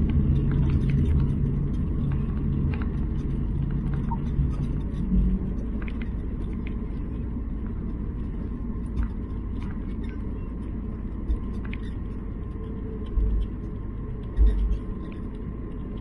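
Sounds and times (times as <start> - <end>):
airliner cabin rumble: 0.0 - 16.0
faint whine: 0.0 - 16.0.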